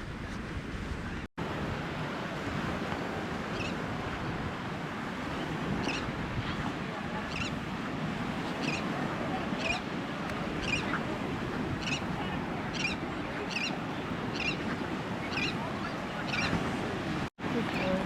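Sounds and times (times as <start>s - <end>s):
surf: 0.0s - 18.0s
wind: 0.0s - 18.0s.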